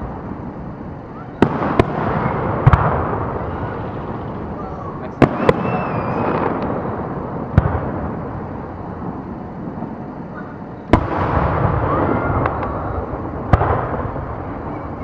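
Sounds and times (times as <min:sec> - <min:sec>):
fireworks crackle and rumble: 0:00.0 - 0:15.0
light firework cracks: 0:00.0 - 0:15.0.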